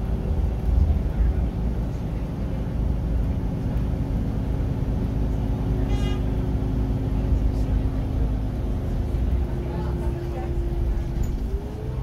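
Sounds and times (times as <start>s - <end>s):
bus diesel engine drone: 0.0s - 12.0s
deep road rumble: 0.0s - 12.0s.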